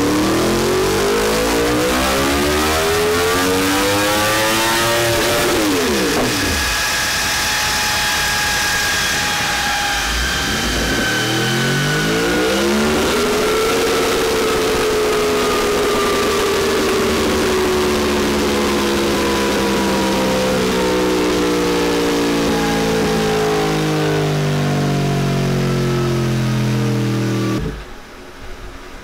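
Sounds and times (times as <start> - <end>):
motorcycle engine revs falling: 0.0 - 28.0.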